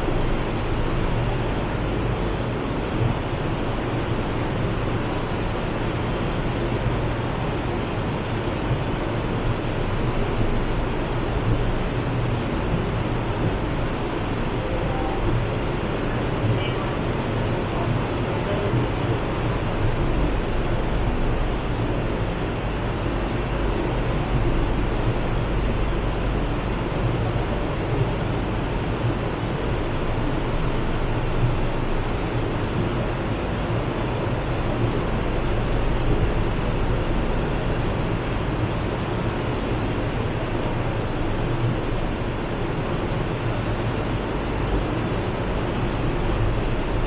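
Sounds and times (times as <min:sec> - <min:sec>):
train equipment humming: 0:00.0 - 0:47.0.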